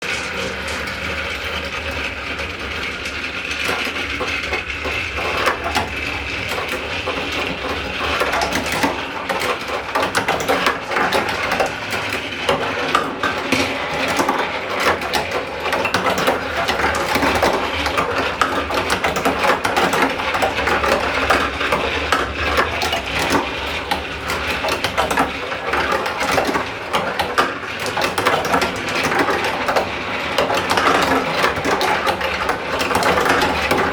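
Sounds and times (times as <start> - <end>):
marbles clattering on plastic run: 0.0 - 33.9.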